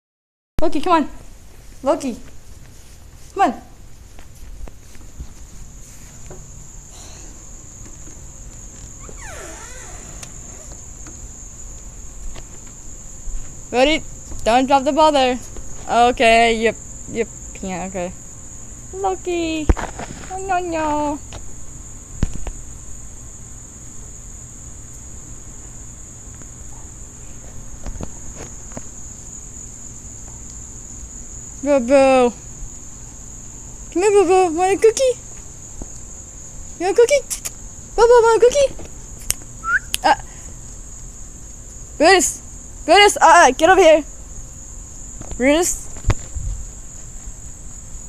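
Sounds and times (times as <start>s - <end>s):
crickets trilling: 0.6s - 48.0s
insect chorus chirring: 0.6s - 48.0s.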